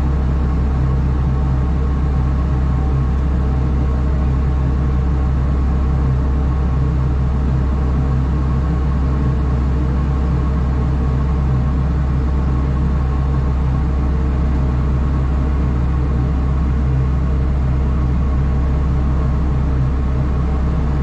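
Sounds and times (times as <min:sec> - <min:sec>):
large engine droning: 0:00.0 - 0:21.0.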